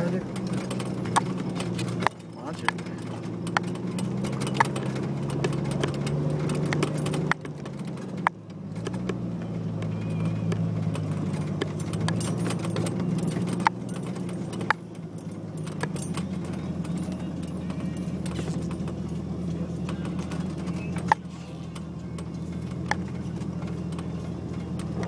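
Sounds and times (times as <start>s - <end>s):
knocks and rattles over rough dirt: 0.0s - 25.0s
vehicle engine running at low speed: 0.0s - 25.0s.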